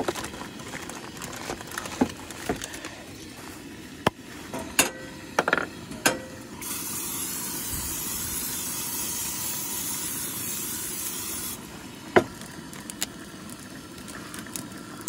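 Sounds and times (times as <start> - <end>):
cooking spray hissing: 2.7 - 15.0.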